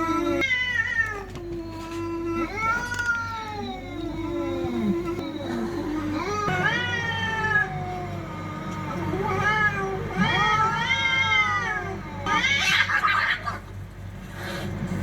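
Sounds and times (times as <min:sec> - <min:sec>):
cats yowling in a fight: 0:00.0 - 0:13.7.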